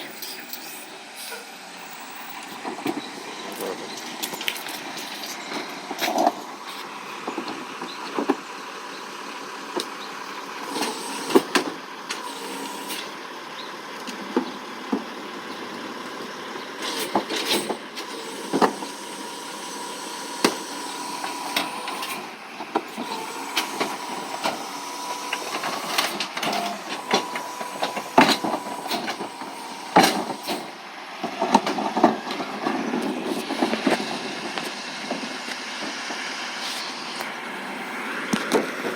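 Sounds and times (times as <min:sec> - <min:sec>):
recycling truck whine: 0:00.0 - 0:38.9.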